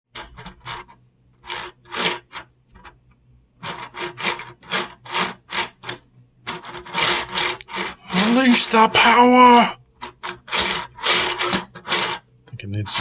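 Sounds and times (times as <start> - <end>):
plastic parts scraping: 0.1 - 3.0, 3.6 - 9.2, 10.0 - 12.3.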